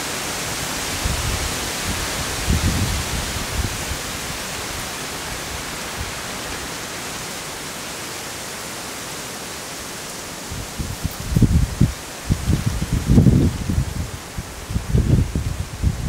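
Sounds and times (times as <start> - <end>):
wind rustling leaves: 0.0 - 16.0.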